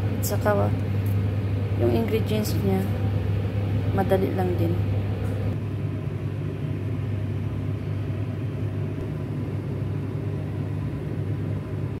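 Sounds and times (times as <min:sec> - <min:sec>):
rumbly noise: 0:00.0 - 0:12.0
steady low hum: 0:00.0 - 0:12.0.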